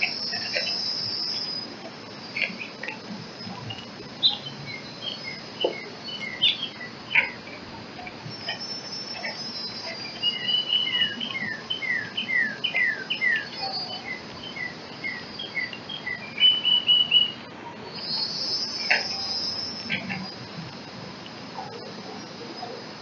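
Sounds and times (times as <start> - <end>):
songbird whistling notes: 0.0 - 20.5
high steady buzz: 0.0 - 23.0.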